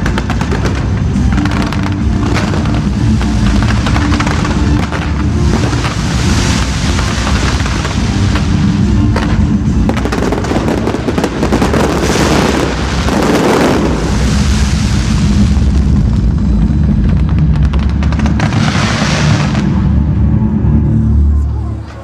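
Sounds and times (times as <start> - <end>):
fireworks bursting and crackling: 0.0 - 20.6.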